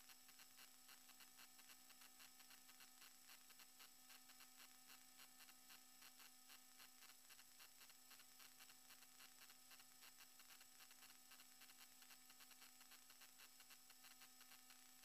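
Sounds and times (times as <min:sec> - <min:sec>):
faint electrical hum and hiss: 0:00.0 - 0:15.0.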